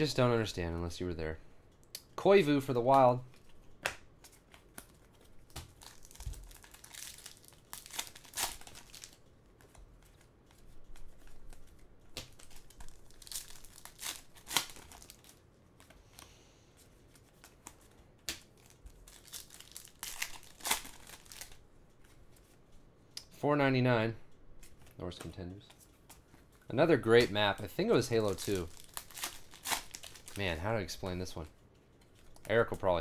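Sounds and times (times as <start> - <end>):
cards rustling in plastic sleeves: 2.4 - 22.8, 24.6 - 33.0.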